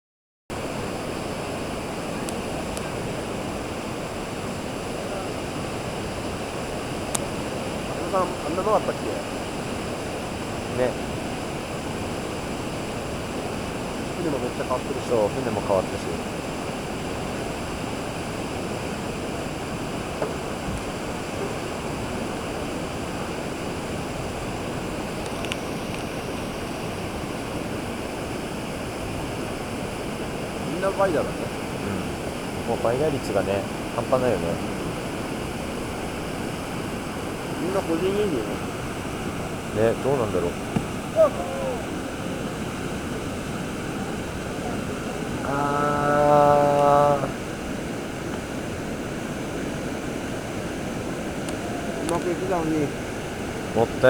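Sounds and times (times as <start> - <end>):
whitewater rushing: 0.6 - 54.0.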